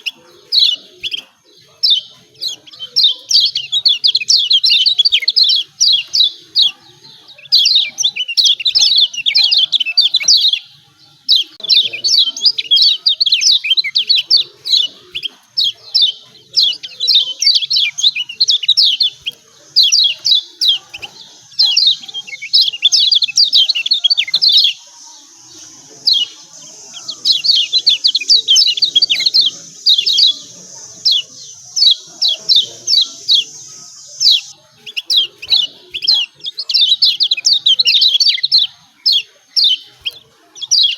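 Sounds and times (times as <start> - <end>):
bird chirping sharply: 0.0 - 40.9.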